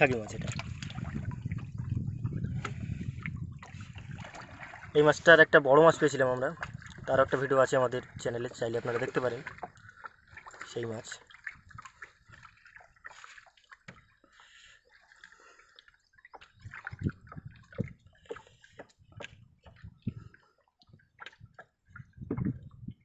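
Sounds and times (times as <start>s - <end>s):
water sloshing in a boat: 0.0s - 23.0s.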